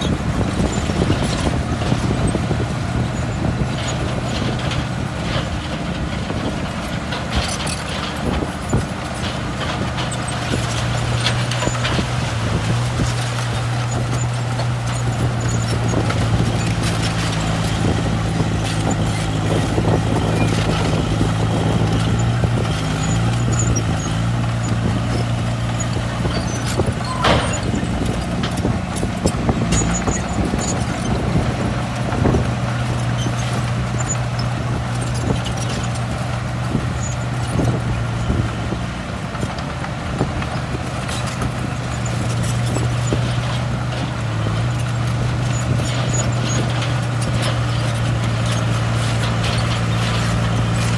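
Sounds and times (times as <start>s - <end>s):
bulldozer diesel engine: 0.0s - 50.9s
clanking tracks: 0.0s - 50.9s.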